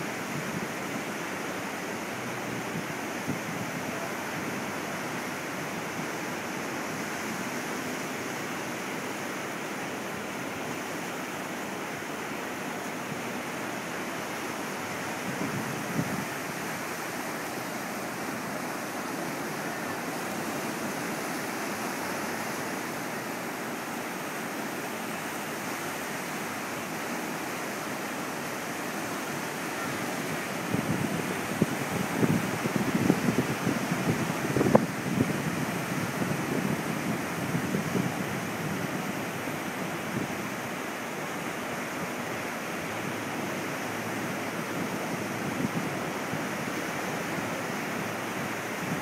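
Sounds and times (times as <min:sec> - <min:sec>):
waves breaking on a beach: 0:00.0 - 0:49.0.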